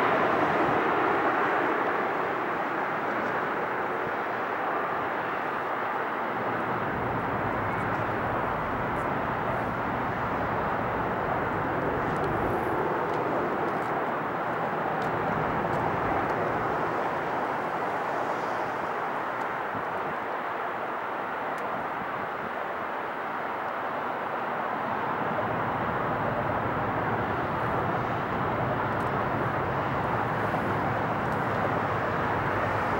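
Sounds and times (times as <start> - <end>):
jet engines rushing: 0.0 - 22.6, 23.2 - 32.9.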